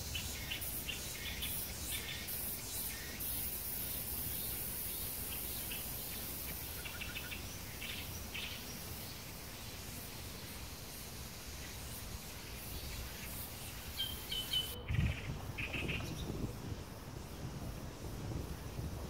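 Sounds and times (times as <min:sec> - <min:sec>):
high insect buzz: 0:00.0 - 0:19.0.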